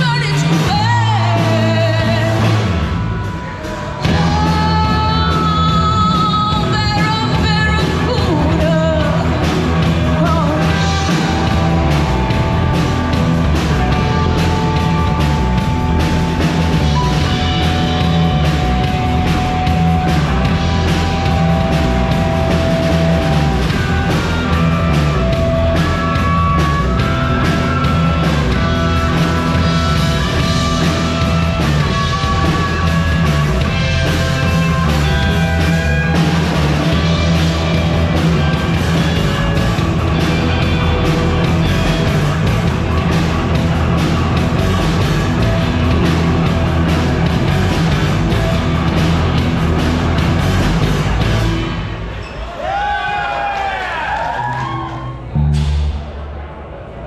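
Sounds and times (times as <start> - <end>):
electric guitar lead: 0.0 - 52.2
drum kit: 0.0 - 53.6, 54.3 - 56.4
bass guitar: 0.0 - 57.0.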